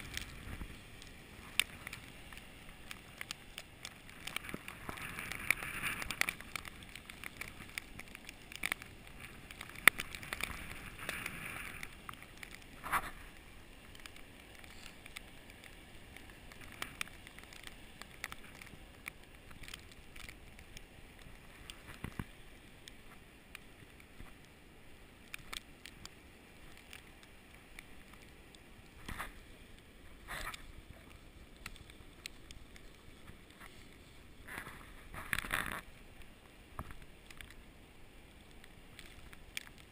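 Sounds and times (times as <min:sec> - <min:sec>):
light ticks and crunches: 0:00.0 - 0:39.9
snowstorm wind blowing: 0:00.0 - 0:39.9.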